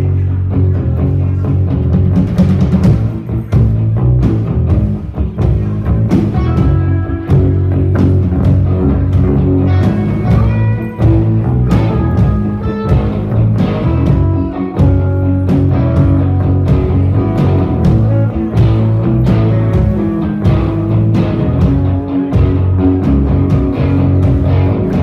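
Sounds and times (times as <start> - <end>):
rock band playing: 0.0 - 25.0
lead guitar bending notes: 2.8 - 25.0.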